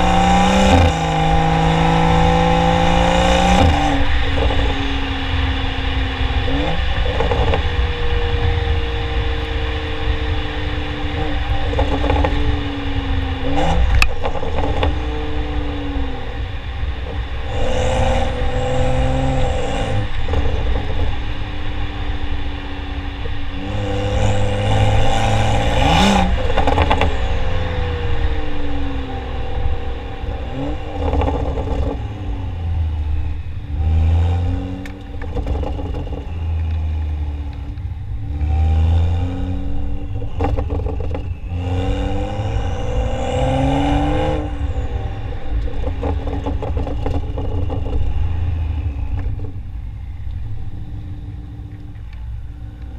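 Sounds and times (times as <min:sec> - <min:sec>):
car engine revving: 0:00.0 - 0:52.9
exhaust crackles: 0:00.0 - 0:52.9.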